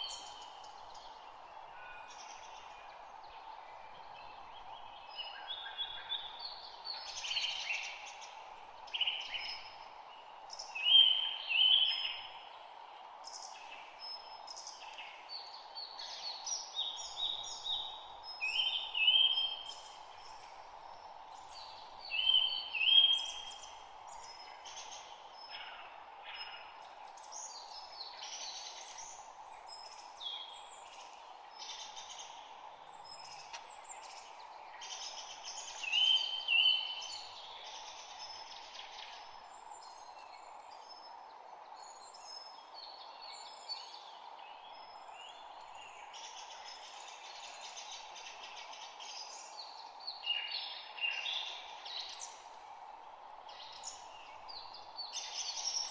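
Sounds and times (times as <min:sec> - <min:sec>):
steady background hiss: 0:00.0 - 0:55.9.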